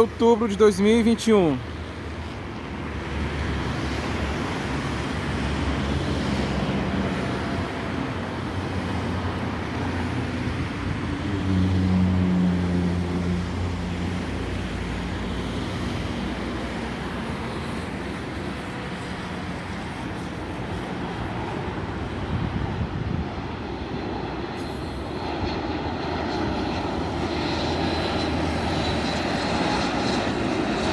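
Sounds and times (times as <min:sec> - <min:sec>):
jet engines rumbling: 0:00.0 - 0:11.6, 0:13.1 - 0:30.9.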